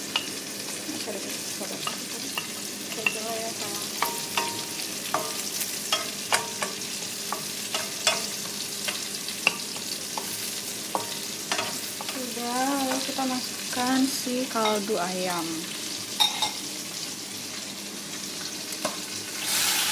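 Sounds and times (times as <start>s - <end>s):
garlic sizzling in butter: 0.0s - 19.9s.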